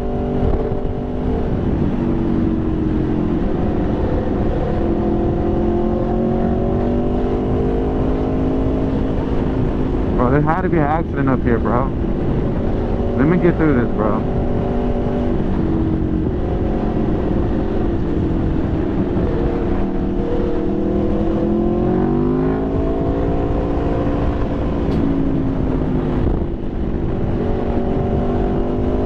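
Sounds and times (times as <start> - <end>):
motorcycle engine at low revs: 0.0 - 10.2, 11.6 - 29.0.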